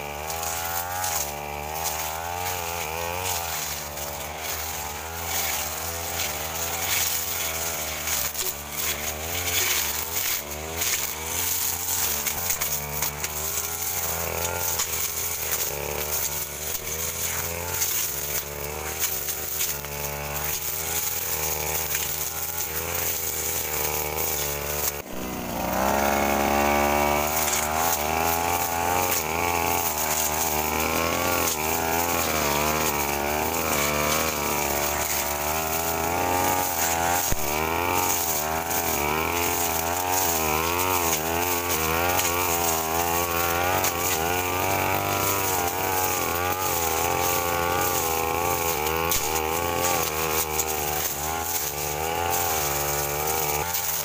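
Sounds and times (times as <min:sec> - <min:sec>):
brush cutter engine cutting undergrowth: 0:00.0 - 0:54.0.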